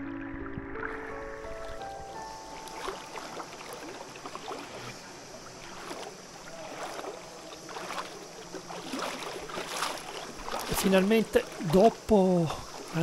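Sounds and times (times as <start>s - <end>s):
water splashing from swimming: 0.0s - 13.0s.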